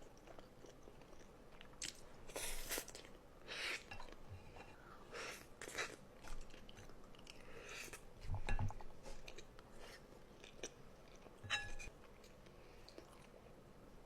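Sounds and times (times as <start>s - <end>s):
chewing food: 0.0s - 13.6s.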